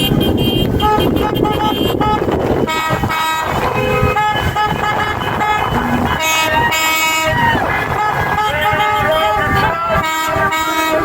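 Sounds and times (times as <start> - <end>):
car horns honking: 0.0 - 11.0
road traffic: 0.0 - 11.0.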